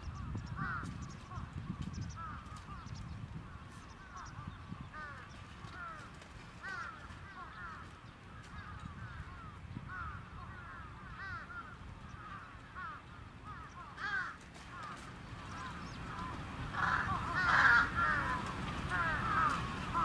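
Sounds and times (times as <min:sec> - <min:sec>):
low steady rumble: 0:00.0 - 0:20.0
crows cawing: 0:00.6 - 0:01.5, 0:04.0 - 0:20.0.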